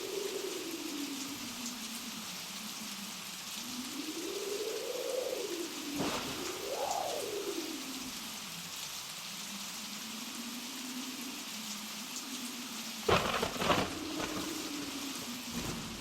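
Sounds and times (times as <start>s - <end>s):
blizzard wind: 0.0s - 16.0s.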